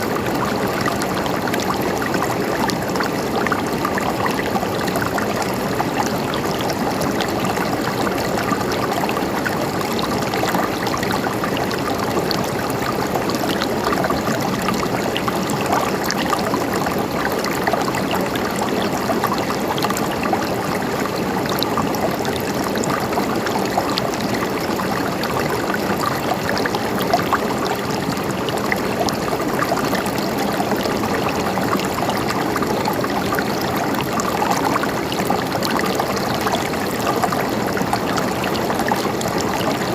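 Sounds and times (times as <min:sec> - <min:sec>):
water gurgling and trickling: 0:00.0 - 0:39.9.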